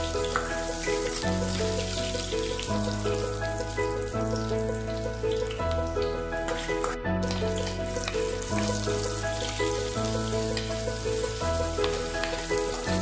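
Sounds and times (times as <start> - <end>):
background music: 0.0 - 13.0
onion sizzling in oil: 0.0 - 13.0.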